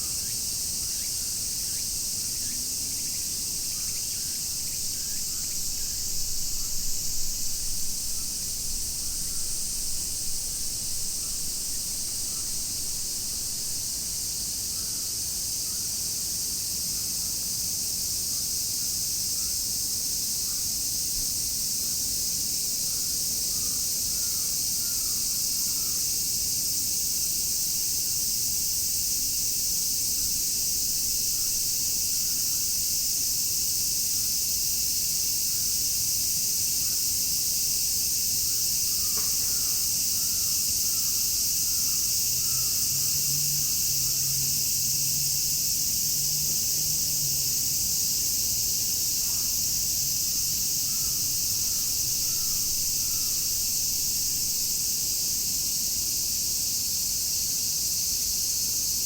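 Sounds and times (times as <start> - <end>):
cicadas shrilling: 0.0 - 59.0.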